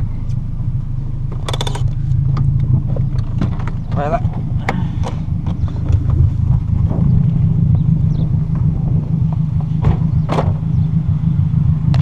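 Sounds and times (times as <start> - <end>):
car engine drone through exhaust: 0.0 - 12.0.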